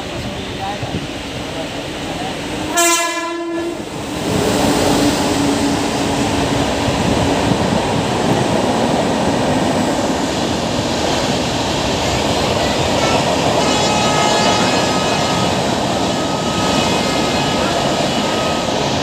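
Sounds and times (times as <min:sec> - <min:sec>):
passenger train rushing past: 0:00.0 - 0:19.0.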